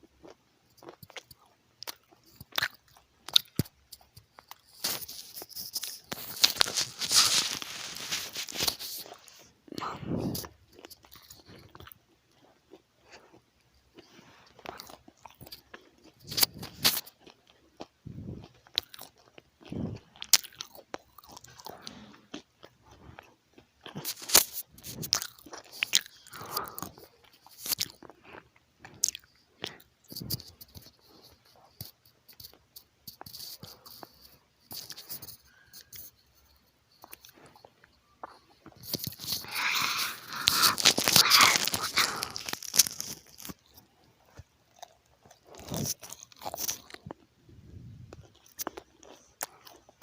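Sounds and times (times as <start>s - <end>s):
chewing crunchy food: 0.0s - 47.3s, 48.1s - 50.0s.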